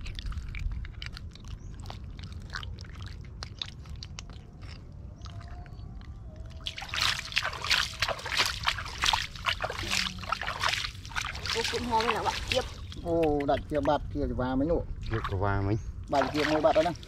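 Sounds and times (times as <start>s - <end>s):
hands squelching in wet mud: 0.0s - 13.9s, 16.0s - 17.0s
small wet clicks: 0.0s - 14.0s
water sloshing and splashing: 0.0s - 14.0s, 15.0s - 17.0s.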